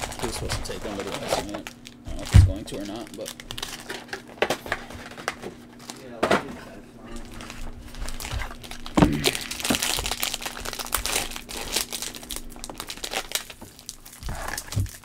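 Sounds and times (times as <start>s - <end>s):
plastic wrappers crinkling: 0.0s - 15.0s.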